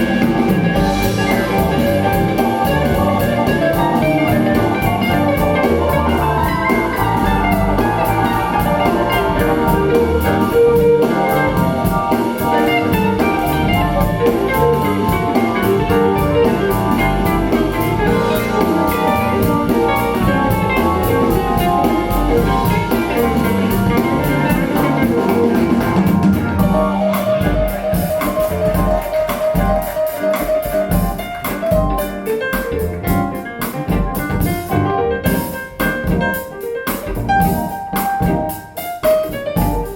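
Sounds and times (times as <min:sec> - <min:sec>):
drum kit: 0:00.0 - 0:39.9
guitar: 0:00.0 - 0:39.9.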